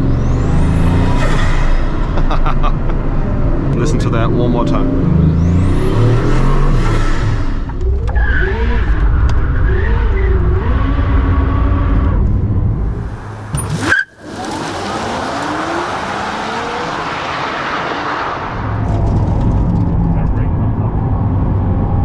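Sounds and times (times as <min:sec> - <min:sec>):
car accelerating with rising whine: 0:00.0 - 0:22.0
car engine revving: 0:00.0 - 0:22.0
wind and tyre noise: 0:00.0 - 0:22.0.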